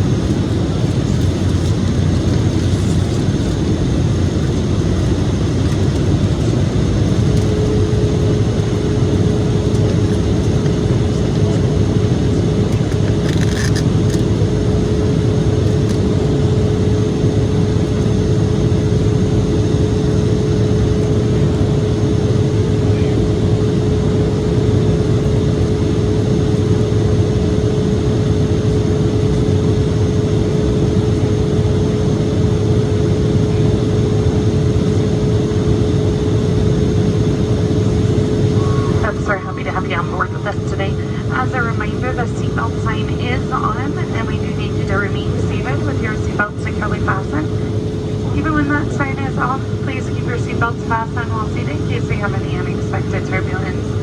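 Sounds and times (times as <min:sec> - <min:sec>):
jet airliner cabin noise: 0:00.0 - 0:54.0
steady hum: 0:00.0 - 0:54.0.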